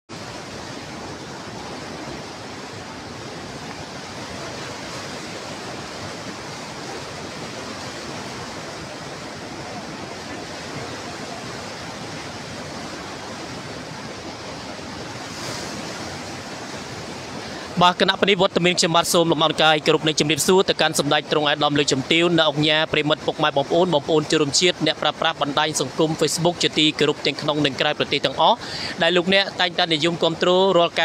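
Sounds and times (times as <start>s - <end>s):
floodwater rushing: 0.1s - 31.0s.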